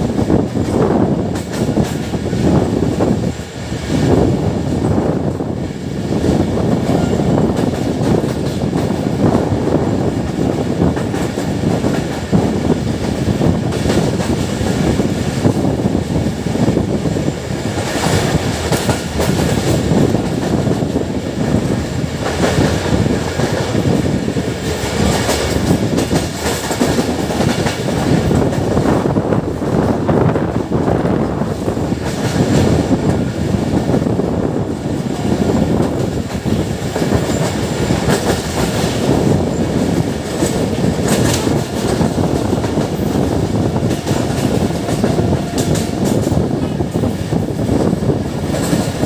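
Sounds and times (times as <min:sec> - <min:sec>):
clickety-clack over rail joints: 0:00.0 - 0:49.0
train wheels rumbling on rails: 0:00.0 - 0:49.0.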